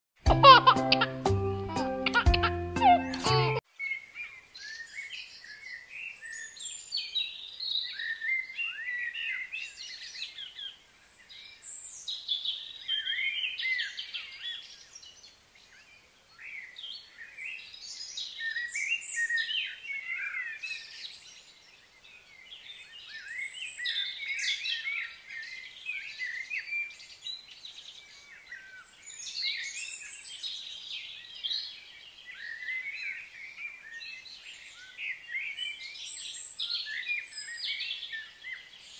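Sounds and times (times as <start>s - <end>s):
small birds chirping: 0.4s - 38.9s.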